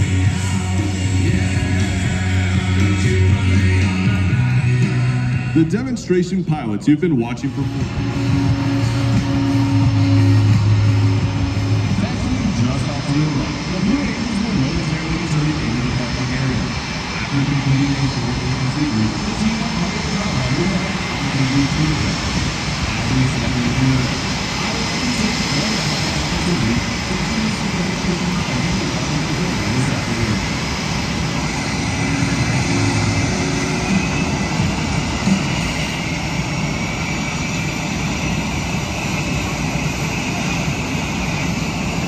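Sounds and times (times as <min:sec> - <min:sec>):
jet engine rumble: 0:00.0 - 0:42.0
jet engines turbine whine: 0:00.0 - 0:42.0.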